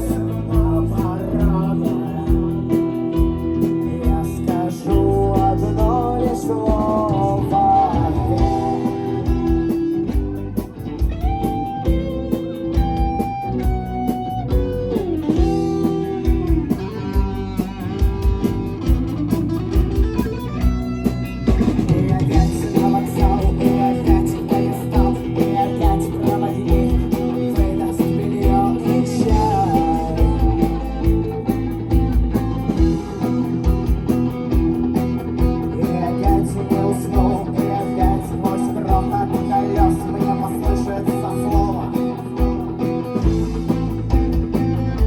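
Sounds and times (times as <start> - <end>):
electric guitar bending notes: 0.0 - 45.0
live rock band playing: 0.0 - 45.0.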